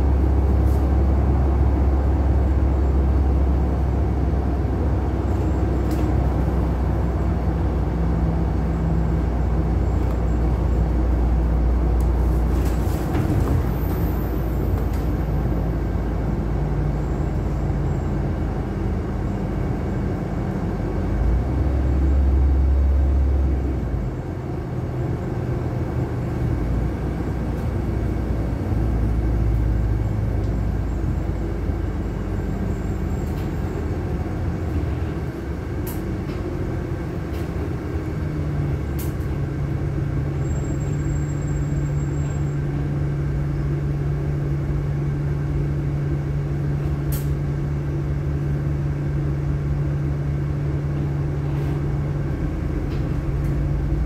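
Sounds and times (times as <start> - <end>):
bus engine and road rumble: 0.0 - 54.0
low engine drone: 0.0 - 54.0.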